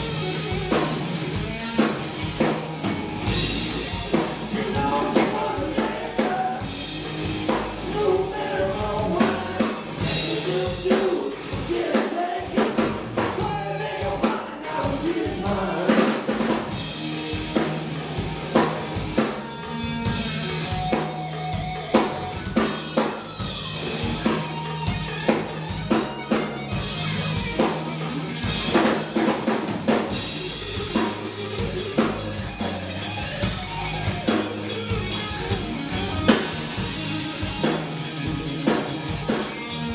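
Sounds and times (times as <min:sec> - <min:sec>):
bass guitar: 0:00.0 - 0:39.9
drum kit beat: 0:00.0 - 0:39.9
electric guitar lead: 0:00.0 - 0:39.9.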